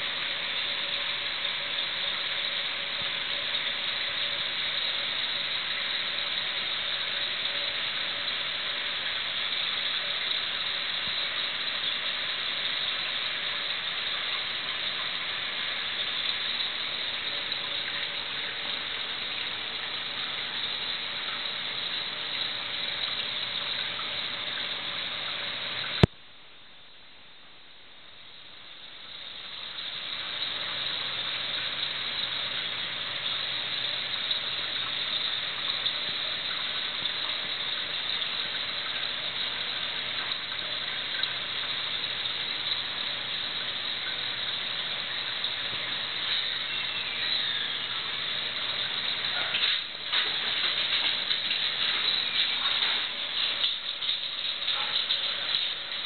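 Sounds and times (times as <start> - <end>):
aquarium water flow hiss: 0.0 - 56.0
low pump hum: 0.0 - 56.0.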